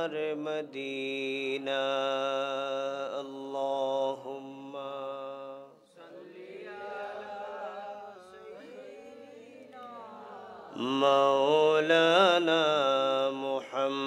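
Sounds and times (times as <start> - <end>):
group of men chanting: 0.0 - 14.0.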